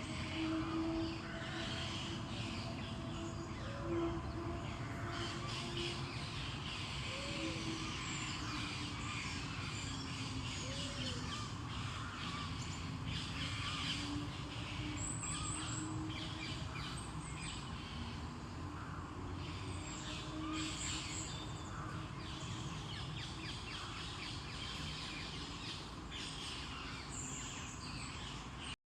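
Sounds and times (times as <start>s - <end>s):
bird low arched calls: 0.0s - 27.8s
steady background noise: 0.0s - 28.8s.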